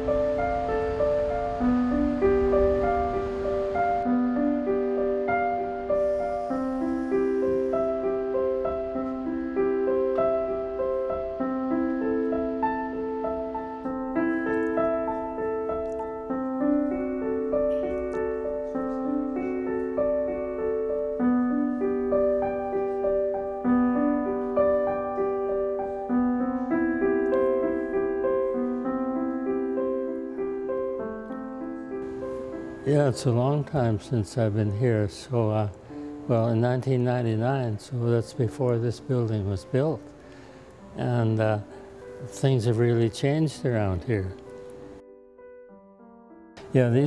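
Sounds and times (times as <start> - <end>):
piano melody: 0.0 - 47.0.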